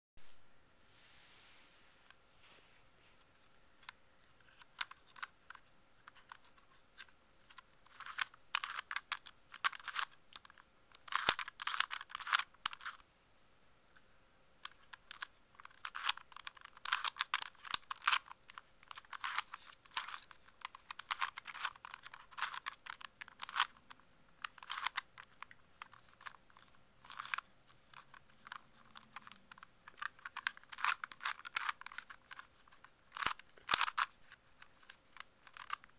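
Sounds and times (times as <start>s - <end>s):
plastic puzzle clicking: 3.8s - 13.0s, 14.6s - 35.9s.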